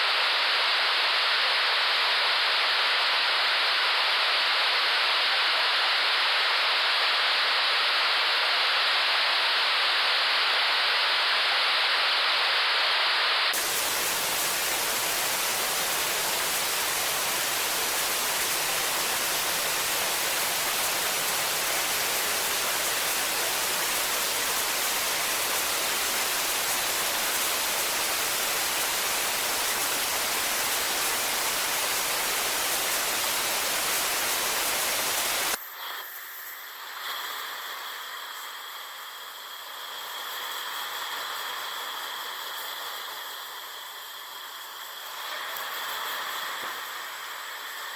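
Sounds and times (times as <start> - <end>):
white noise static hiss: 0.0 - 47.9.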